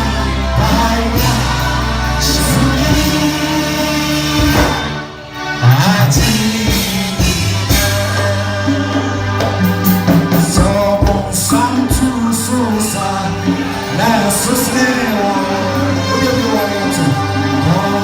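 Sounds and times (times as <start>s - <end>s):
person singing gospel: 0.0s - 18.0s
steady drum beat: 0.0s - 18.0s
sustained bass notes: 0.0s - 18.0s.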